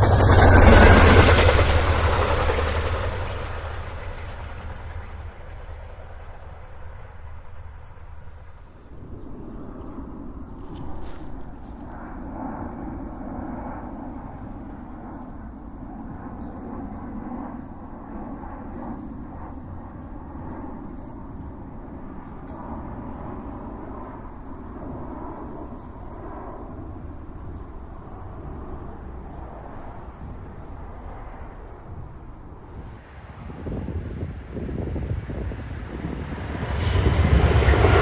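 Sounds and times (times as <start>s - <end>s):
airplane engines rumbling overhead: 0.0s - 38.0s.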